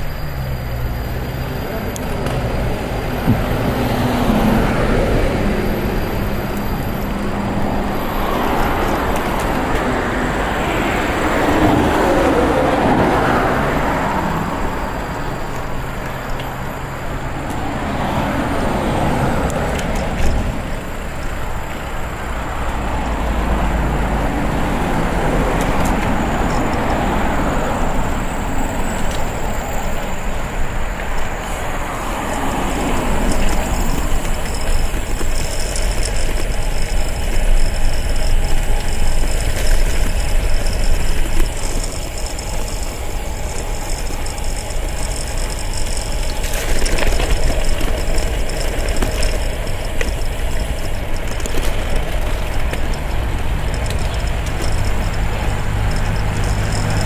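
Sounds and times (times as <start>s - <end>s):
cars passing by: 0.0s - 57.0s.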